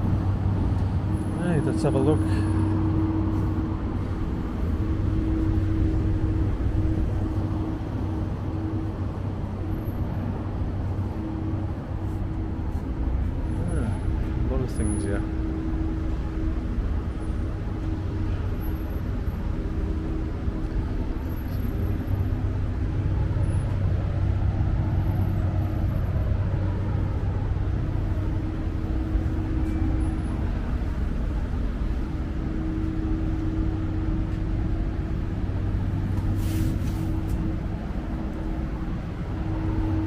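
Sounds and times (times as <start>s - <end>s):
steady low hum: 0.0s - 40.0s
urban background noise: 0.0s - 40.0s.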